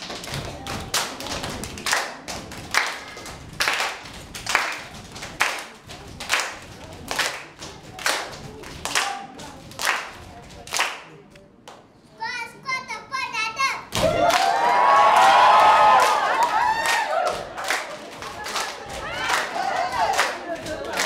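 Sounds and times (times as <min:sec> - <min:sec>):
children clapping and stomping: 0:00.0 - 0:11.1, 0:13.9 - 0:21.0.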